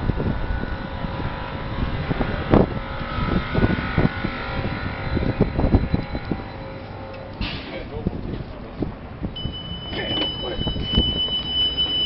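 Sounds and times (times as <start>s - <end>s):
low thumps and rumble: 0.0s - 12.0s
tram electrical hum with whining: 0.0s - 12.0s.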